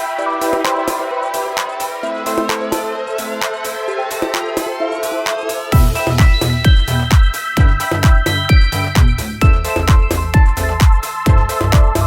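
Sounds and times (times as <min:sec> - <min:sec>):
percussive beat: 0:00.0 - 0:12.0
sustained synth chords: 0:01.3 - 0:12.0.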